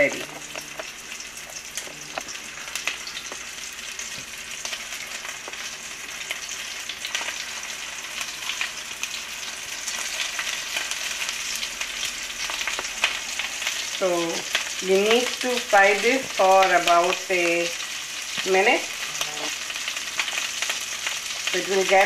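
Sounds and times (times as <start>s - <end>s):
patties sizzling in hot oil: 0.0s - 22.0s.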